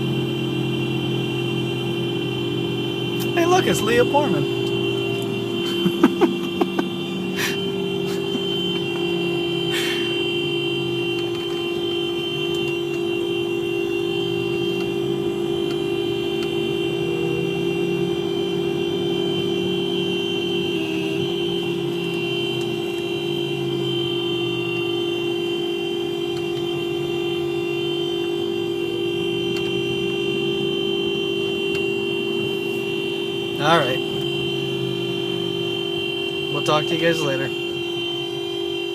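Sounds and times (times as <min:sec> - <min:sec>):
car horn sounding continuously: 0:00.0 - 0:38.9.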